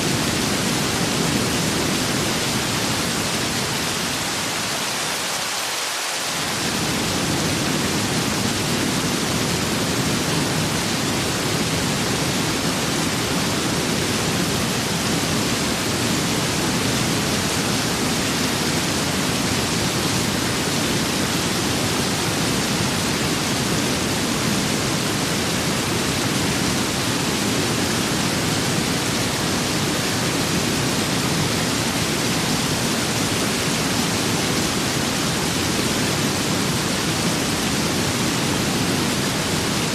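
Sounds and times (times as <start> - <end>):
steady rain: 0.0 - 39.9
wind: 0.0 - 39.9.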